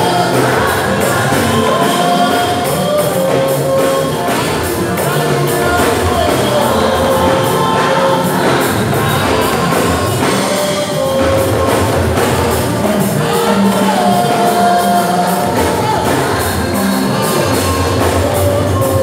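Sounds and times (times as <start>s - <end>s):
band playing: 0.0s - 19.0s
cymbals and drums: 0.0s - 19.0s
men singing into microphones: 0.0s - 19.0s.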